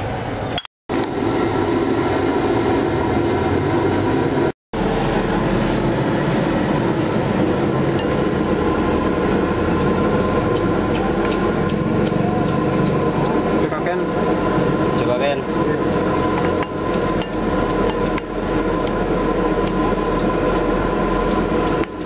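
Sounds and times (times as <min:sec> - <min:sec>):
loud rumbling background noise: 0:00.0 - 0:22.0.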